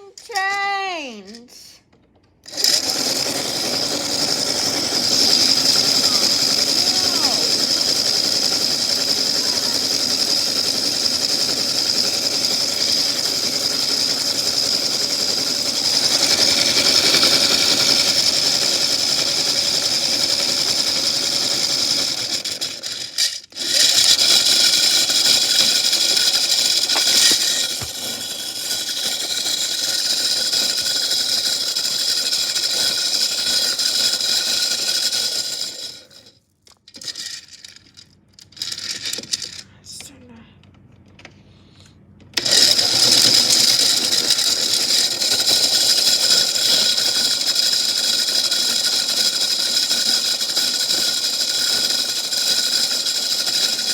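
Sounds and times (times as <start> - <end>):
toy motor whining: 2.4 - 39.6, 41.8 - 53.9
metal chains rattling in drum: 2.5 - 36.3, 42.4 - 53.9.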